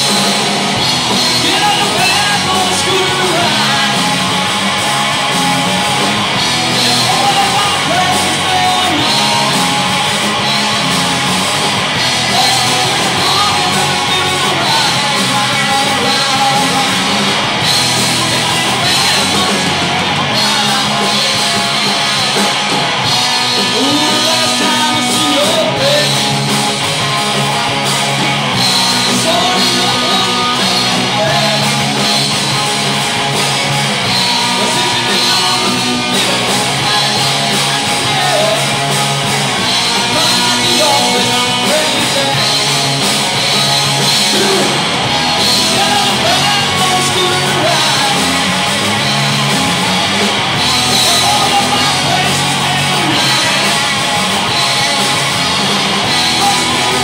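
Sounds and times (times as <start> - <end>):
bass guitar: 0.0 - 57.0
drum kit: 0.0 - 57.0
overdriven electric guitars: 0.0 - 57.0
person singing: 1.2 - 4.4, 6.7 - 11.2, 12.1 - 26.5, 28.6 - 32.6, 34.1 - 49.8, 50.6 - 57.0.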